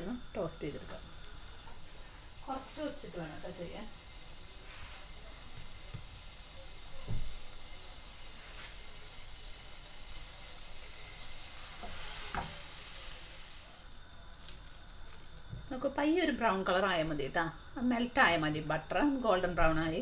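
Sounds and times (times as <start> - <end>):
butter sizzling in a pan: 0.0 - 20.0.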